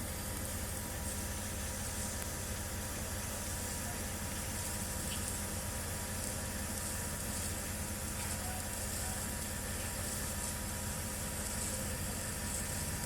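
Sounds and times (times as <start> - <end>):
heavy machinery engine drone: 0.0 - 13.0.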